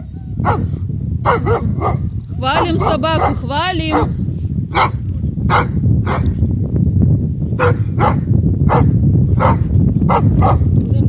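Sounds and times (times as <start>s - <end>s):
wind rumble on microphone: 0.0s - 11.0s
dog barking: 0.4s - 6.3s, 7.6s - 10.7s.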